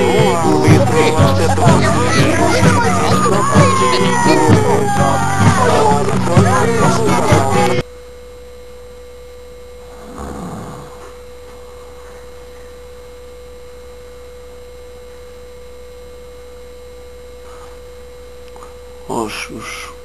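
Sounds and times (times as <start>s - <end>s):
low mains hum: 0.0s - 20.0s
steady electrical whine: 0.0s - 20.0s.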